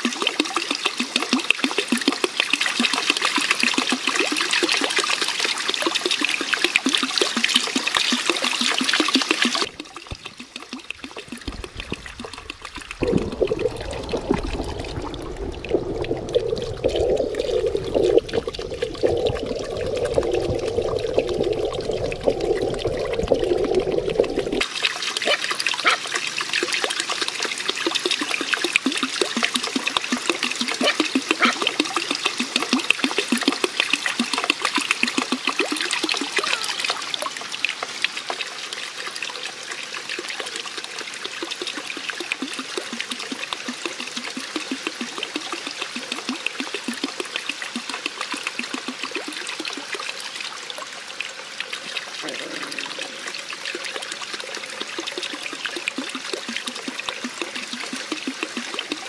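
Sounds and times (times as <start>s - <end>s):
muffled underwater water sound: 0.0s - 59.0s
water trickling into a pond: 0.0s - 59.0s.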